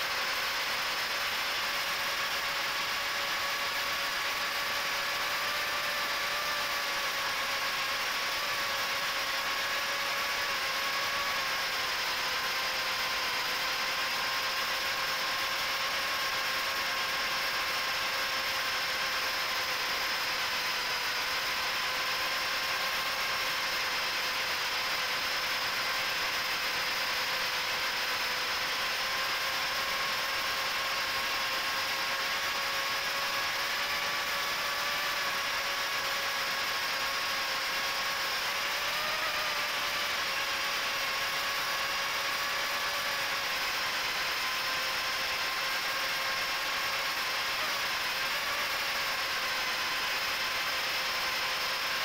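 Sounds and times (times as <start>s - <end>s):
quadcopter motors whining: 0.0s - 52.0s.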